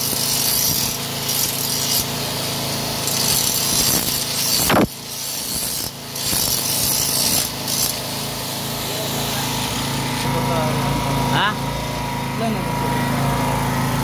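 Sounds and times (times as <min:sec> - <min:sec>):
angle grinder grinding metal: 0:00.0 - 0:14.0
motor hum: 0:00.0 - 0:14.0.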